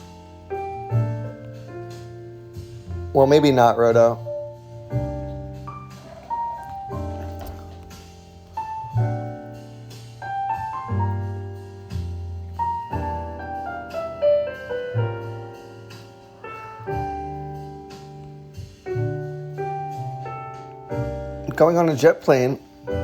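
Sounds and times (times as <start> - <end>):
jazz piano music: 0.0 - 23.0.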